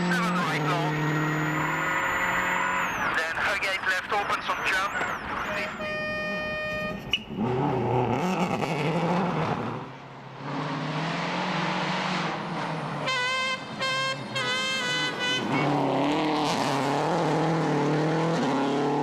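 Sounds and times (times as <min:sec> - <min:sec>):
rally car engine revving: 0:00.0 - 0:06.2, 0:06.9 - 0:19.0
road and tyre noise: 0:00.0 - 0:19.0.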